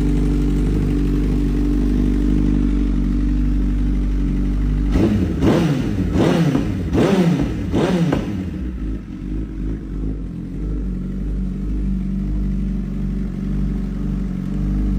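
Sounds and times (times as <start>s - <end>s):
motorcycle engine revving and idling: 0.0s - 14.9s.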